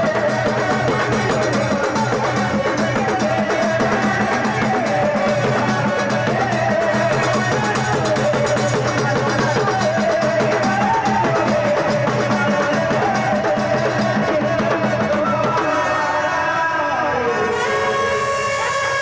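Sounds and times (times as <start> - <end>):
loud music with drum beat: 0.0 - 16.5.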